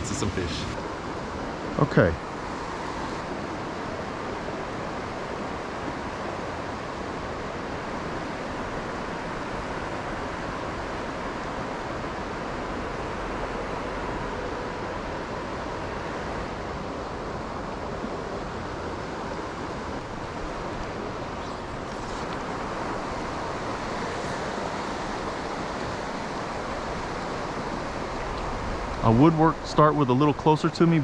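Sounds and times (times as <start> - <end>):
river flowing over rocks: 0.0 - 30.6.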